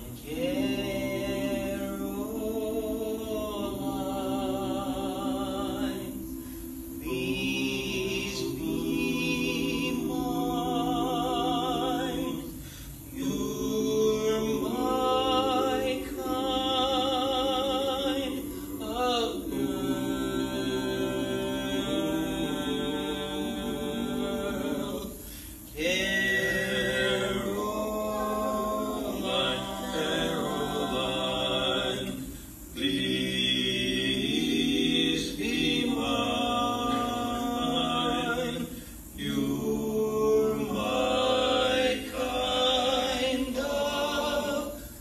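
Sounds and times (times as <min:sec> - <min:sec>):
men's chorus singing a cappella: 0:00.0 - 0:45.0.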